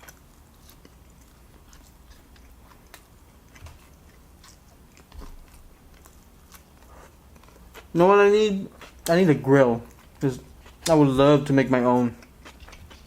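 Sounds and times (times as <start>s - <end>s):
person chewing food: 0.0s - 8.0s, 8.6s - 13.0s.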